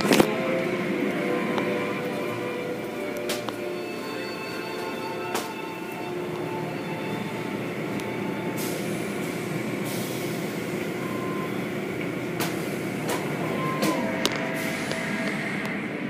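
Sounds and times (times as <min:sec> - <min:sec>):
car wash machinery rumbling: 0:00.0 - 0:16.0.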